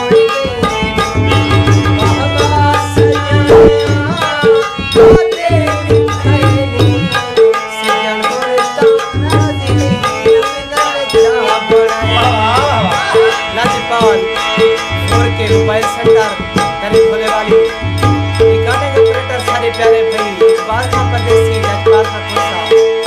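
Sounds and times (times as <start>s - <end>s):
harmonium chords: 0.0s - 23.0s
man singing: 0.0s - 23.0s
tabla rhythm: 0.0s - 23.0s.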